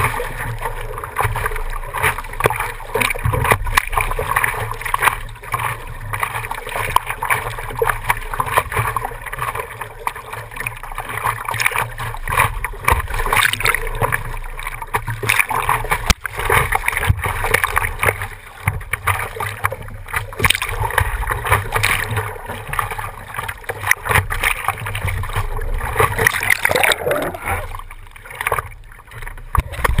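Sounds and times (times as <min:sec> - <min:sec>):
paddling splashes: 0:00.0 - 0:30.0
water sloshing over surfboard: 0:00.0 - 0:30.0.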